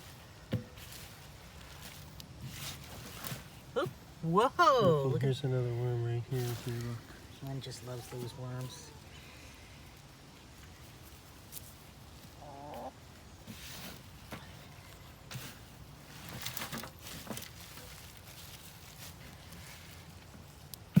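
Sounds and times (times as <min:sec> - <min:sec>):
scraping and rustling of soil: 0:00.0 - 0:04.4, 0:05.2 - 0:21.0.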